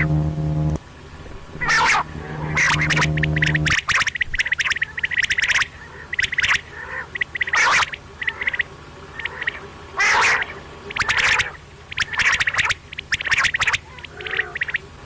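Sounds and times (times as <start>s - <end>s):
low steady hum: 0.0s - 15.0s
harsh rasping bird calls: 1.6s - 14.9s
quail clicking calls: 1.6s - 14.9s.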